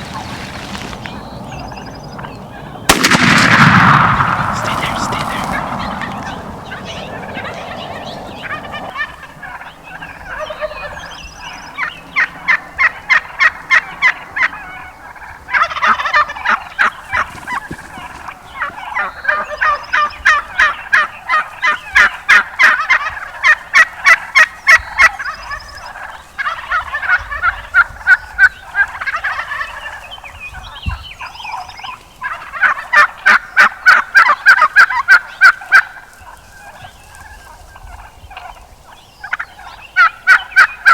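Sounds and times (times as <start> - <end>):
turkeys yelping: 0.0 - 19.9, 26.0 - 40.9.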